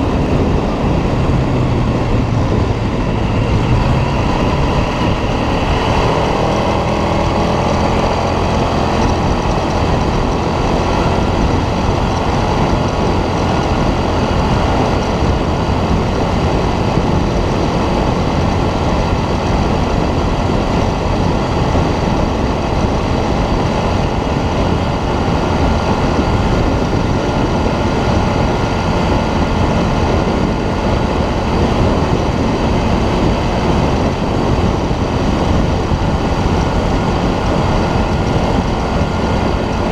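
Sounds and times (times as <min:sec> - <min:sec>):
quad bike engine running: 0:00.0 - 0:39.9
rushing noise: 0:00.0 - 0:39.9.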